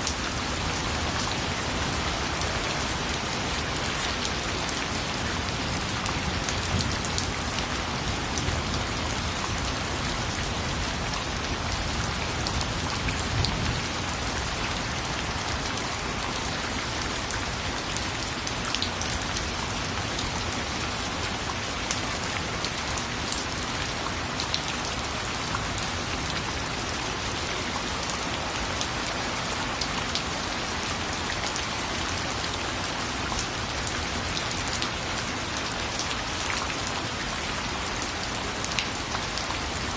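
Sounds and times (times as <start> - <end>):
rain drops pattering on hard surface: 0.0 - 39.9.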